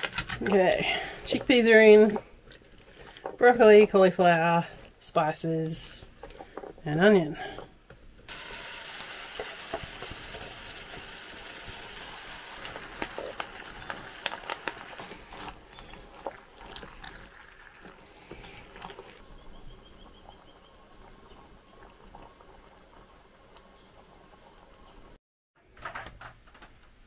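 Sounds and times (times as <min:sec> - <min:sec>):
curry sizzling and bubbling: 0:00.0 - 0:25.2.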